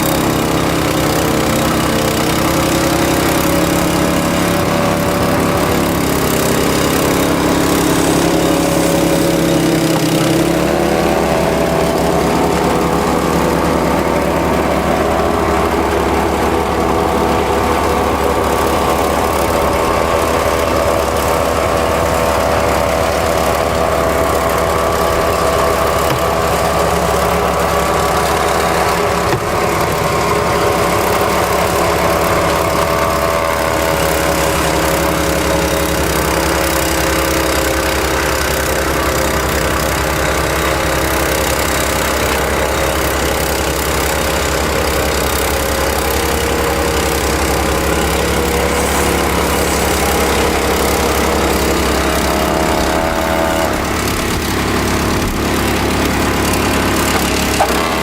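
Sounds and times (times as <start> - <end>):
snow-clearing machine engine: 0.0 - 58.0.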